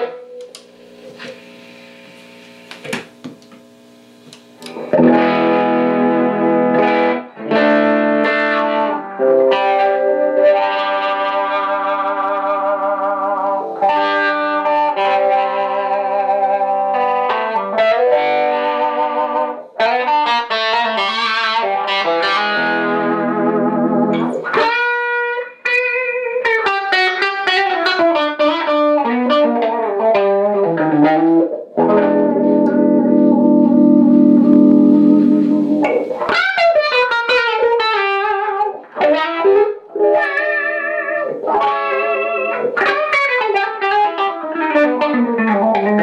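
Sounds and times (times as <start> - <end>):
electric guitar with wah pedal: 0.0 - 46.0.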